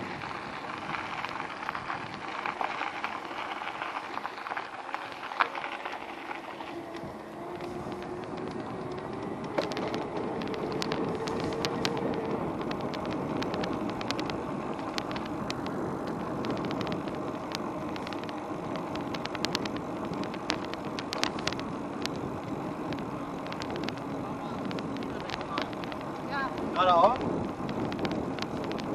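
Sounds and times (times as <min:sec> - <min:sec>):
bike rolling and wind noise: 0:00.0 - 0:28.9
faint motor whine: 0:00.0 - 0:28.9
sharp clicks and rattles: 0:00.0 - 0:28.9.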